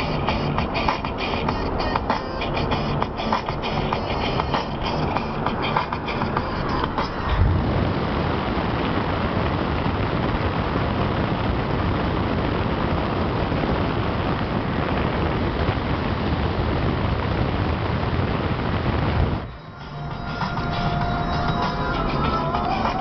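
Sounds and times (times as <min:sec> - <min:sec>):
wind and road noise in car: 0:00.0 - 0:23.0.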